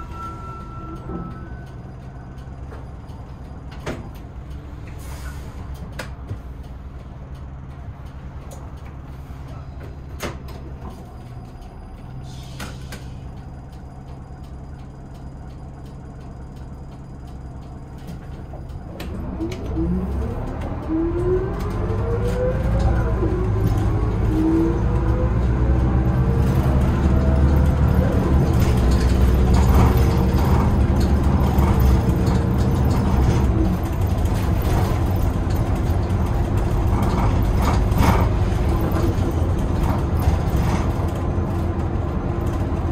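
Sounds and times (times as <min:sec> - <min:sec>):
bus engine accelerating: 0:00.0 - 0:42.9.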